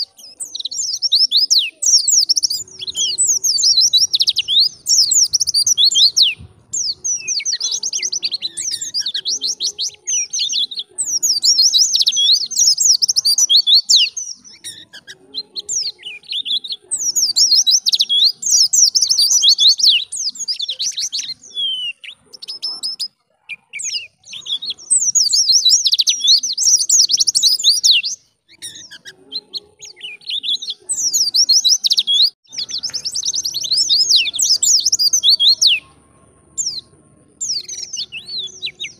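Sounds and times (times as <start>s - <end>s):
bird twittering warble: 0.0s - 35.8s.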